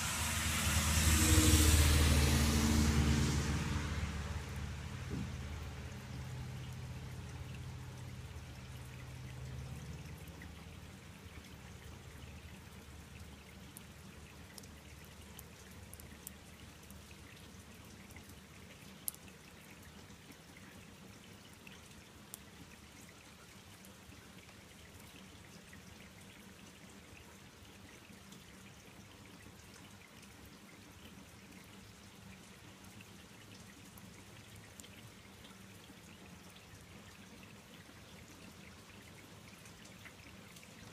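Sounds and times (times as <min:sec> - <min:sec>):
outdoor background noise: 0:00.0 - 0:40.9.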